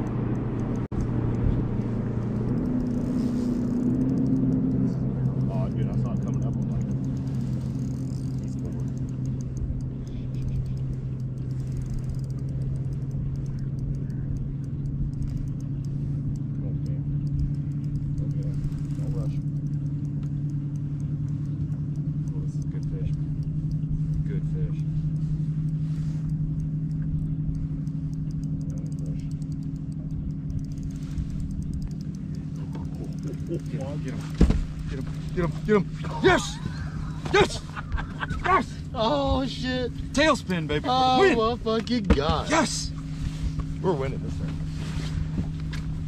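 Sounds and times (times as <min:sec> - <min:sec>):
electric trolling motor hum: 0:00.0 - 0:46.0
faint ticks: 0:00.0 - 0:46.0
rumble of wind and water: 0:00.0 - 0:46.0.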